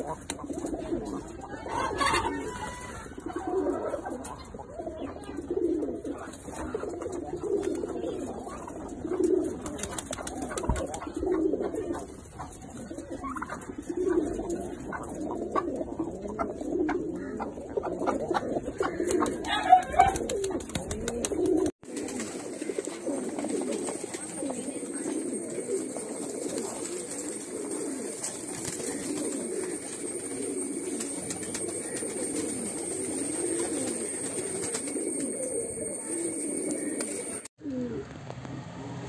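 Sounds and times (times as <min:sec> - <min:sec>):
pigeons cooing: 0:00.0 - 0:38.1.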